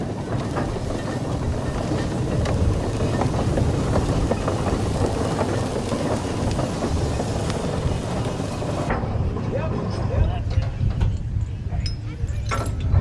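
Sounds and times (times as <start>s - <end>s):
steam traction engine running: 0.0s - 11.6s.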